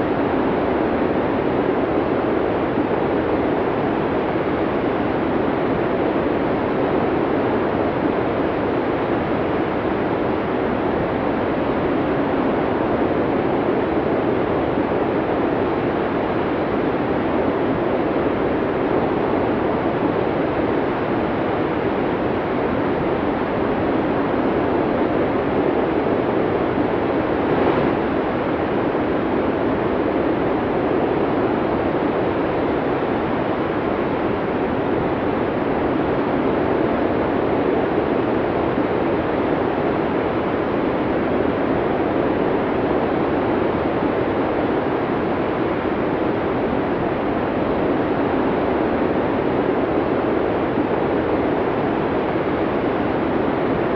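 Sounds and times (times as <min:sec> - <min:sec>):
snowstorm wind blowing: 0:00.0 - 0:53.9.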